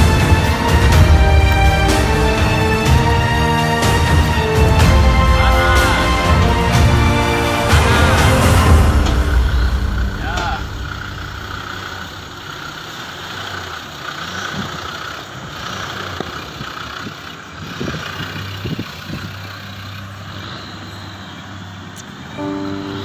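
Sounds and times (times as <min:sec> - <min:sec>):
engine running at low revs: 0:00.0 - 0:22.7.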